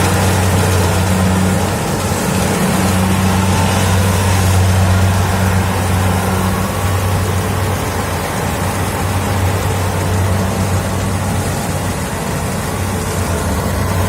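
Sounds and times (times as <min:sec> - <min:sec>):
combine harvester engine humming: 0:00.0 - 0:14.0.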